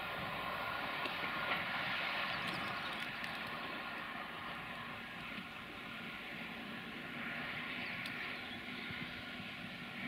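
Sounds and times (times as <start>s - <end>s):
train wheels rushing on rail: 0.0s - 10.0s.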